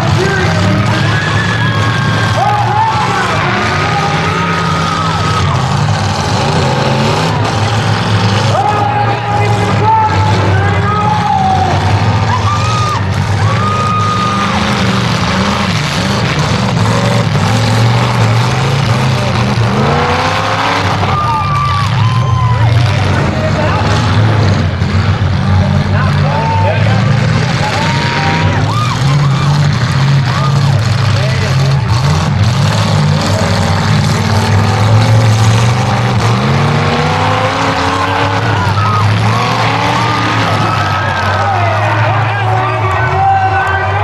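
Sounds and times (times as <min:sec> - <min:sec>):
car engines revving loudly: 0:00.0 - 0:44.0.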